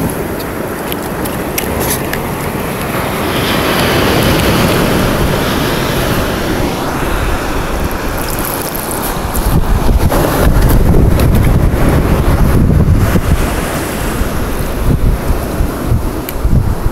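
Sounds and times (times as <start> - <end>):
ocean surf washing: 0.0 - 16.9
wind buffeting microphone: 0.0 - 16.9.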